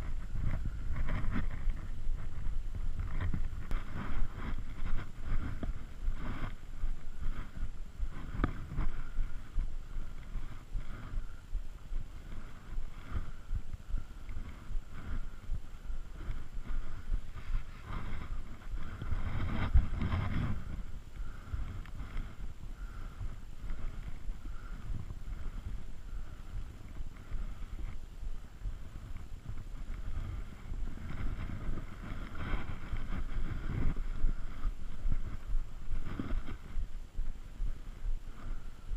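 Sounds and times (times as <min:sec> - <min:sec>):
gear brushing and rubbing: 0:00.0 - 0:11.4, 0:12.0 - 0:28.1, 0:28.8 - 0:36.9
rustling through dry grass: 0:00.0 - 0:38.9
wind buffeting microphone: 0:00.0 - 0:38.9.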